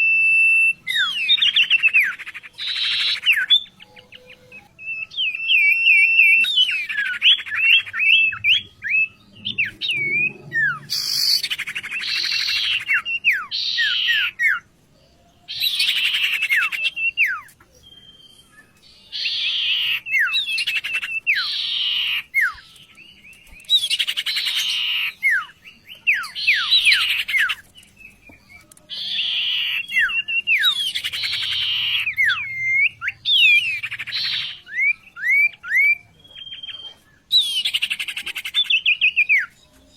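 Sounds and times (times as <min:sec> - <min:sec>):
songbird singing whistles and buzzy notes: 0:00.0 - 0:14.6, 0:15.5 - 0:39.6.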